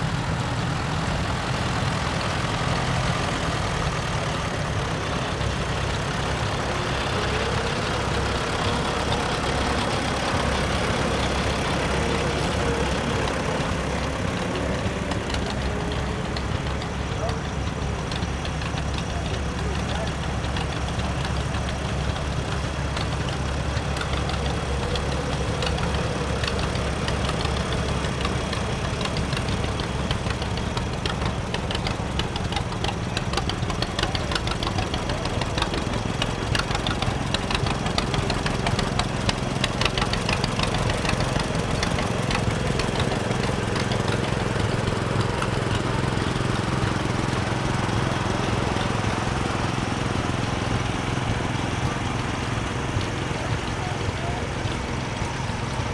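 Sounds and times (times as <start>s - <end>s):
tractor engines running: 0.0s - 55.9s
rapid clatter of clicks: 0.4s - 55.9s.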